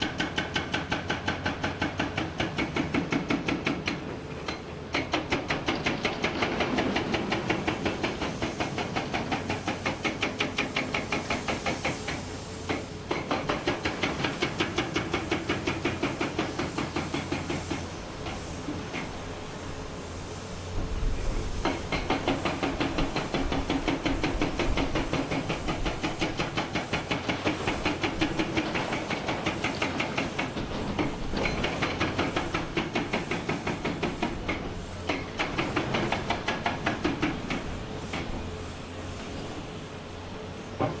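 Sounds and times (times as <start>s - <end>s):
hydraulic breaker pounding rock: 0.0s - 17.9s, 21.6s - 38.5s.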